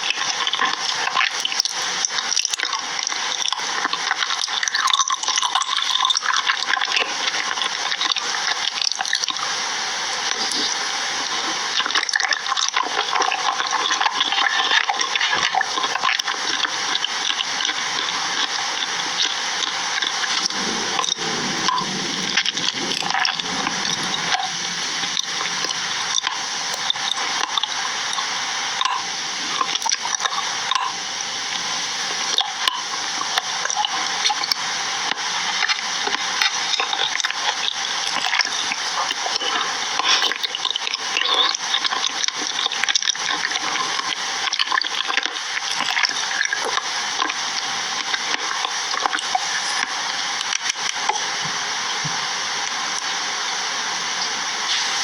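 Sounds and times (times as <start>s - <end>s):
crackling hiss: 0.0s - 55.0s.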